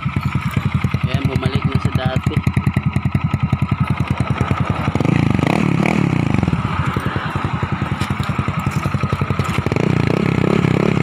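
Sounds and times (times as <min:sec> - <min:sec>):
scooter exhaust idling and revving: 0:00.0 - 0:11.0.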